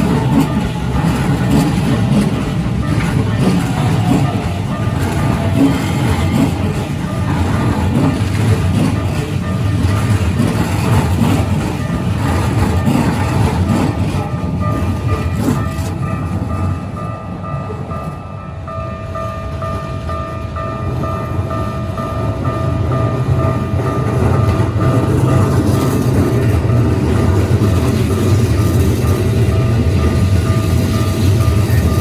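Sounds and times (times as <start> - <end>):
crossing warning bell dinging: 0.0 - 32.0
train wheels rumbling on rails: 0.0 - 32.0.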